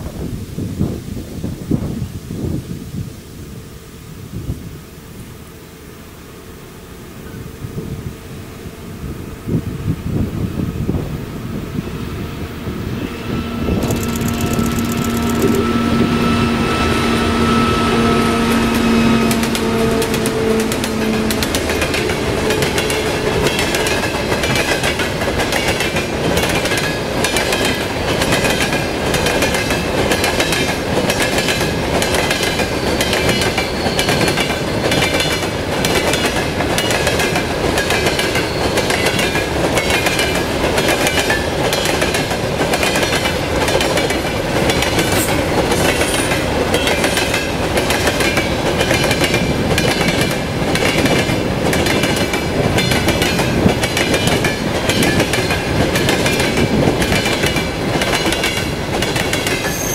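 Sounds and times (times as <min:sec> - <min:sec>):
diesel locomotive droning: 0:03.6 - 0:59.9.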